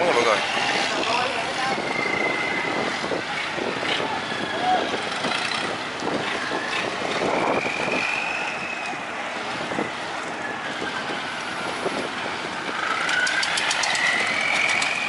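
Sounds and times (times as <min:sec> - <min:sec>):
small boat engines running: 0:00.0 - 0:15.0
wind buffeting microphone: 0:00.0 - 0:15.0.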